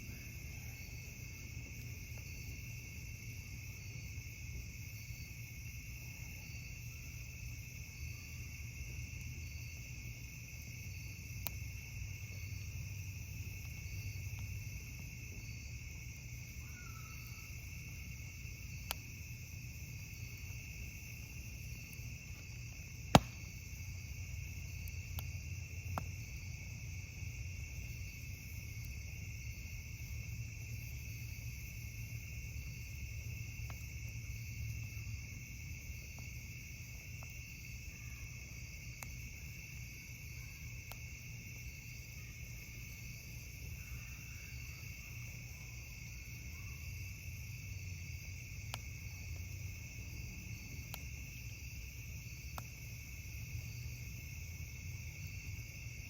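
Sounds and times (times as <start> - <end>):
campfire crackling: 0.0 - 56.0
crickets trilling: 0.0 - 56.0.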